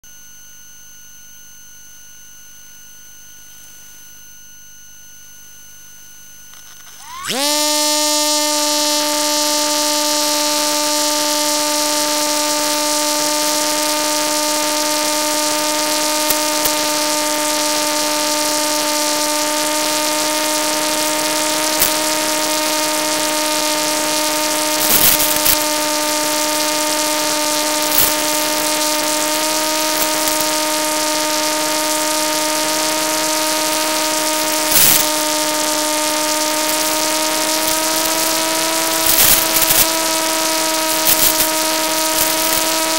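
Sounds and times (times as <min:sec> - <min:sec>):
electric model plane motor whine: 0:04.0 - 0:42.9.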